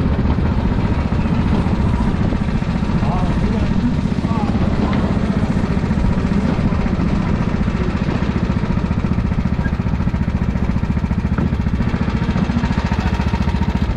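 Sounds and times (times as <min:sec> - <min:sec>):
kart engine running steadily: 0:00.0 - 0:13.9.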